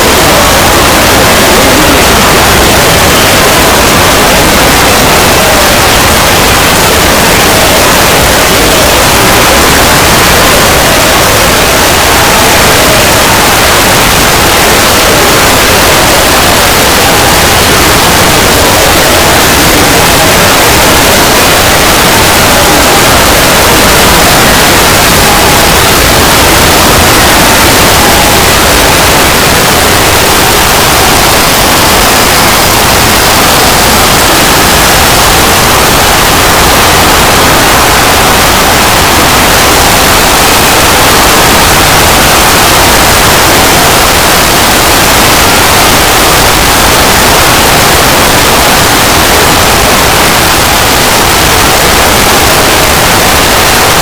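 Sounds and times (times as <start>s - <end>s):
harsh static noise: 0.0s - 54.0s.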